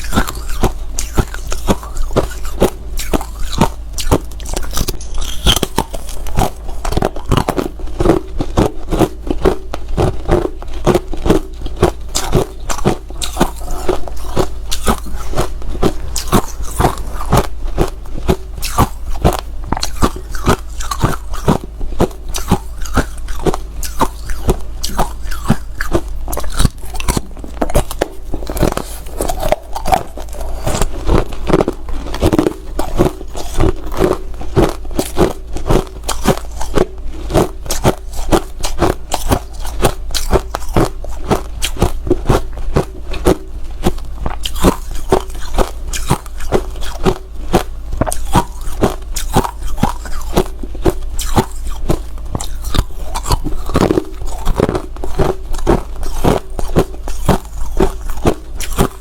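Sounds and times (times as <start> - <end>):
ice crunching while chewed: 0.0 - 59.0.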